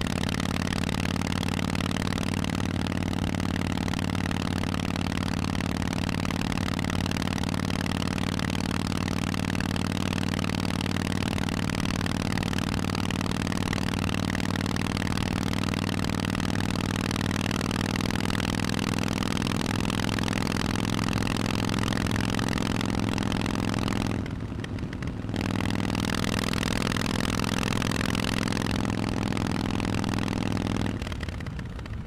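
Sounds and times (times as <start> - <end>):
motorcycle engine running steadily: 0.0 - 32.0.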